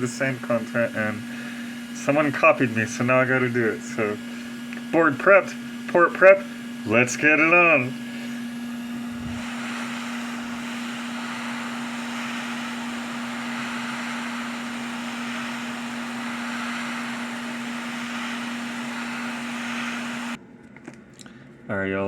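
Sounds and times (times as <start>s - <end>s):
electric blower fan humming: 0.0s - 21.0s.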